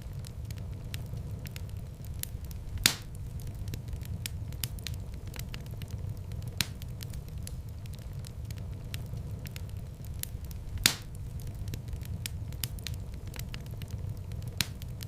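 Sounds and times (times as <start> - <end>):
fire crackling: 0.0 - 15.0
low rumble of flames: 0.0 - 15.0
sharp fire pops: 0.0 - 15.0.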